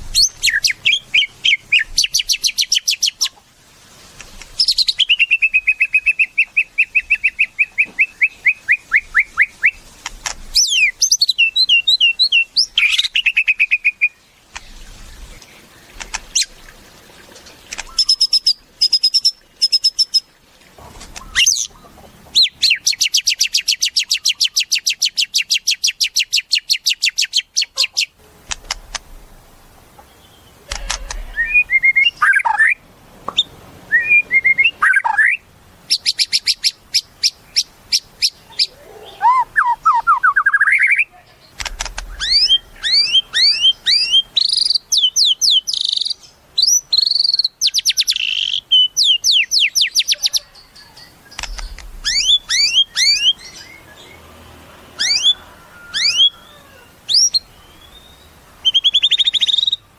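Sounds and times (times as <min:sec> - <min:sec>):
bird singing trills and whistles: 0:00.1 - 0:03.3, 0:04.6 - 0:09.8, 0:10.5 - 0:15.4, 0:17.7 - 0:20.3, 0:21.2 - 0:28.1, 0:30.3 - 0:41.1, 0:41.7 - 0:54.2, 0:55.0 - 0:59.9.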